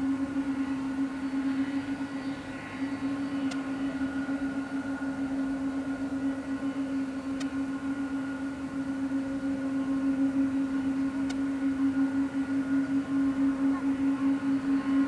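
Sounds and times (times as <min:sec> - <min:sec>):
airliner taxiing engine hum: 0:00.0 - 0:15.0.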